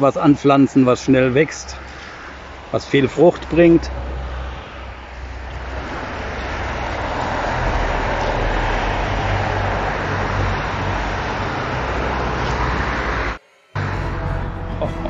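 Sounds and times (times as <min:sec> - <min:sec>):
outdoor rushing noise: 0:00.0 - 0:15.0.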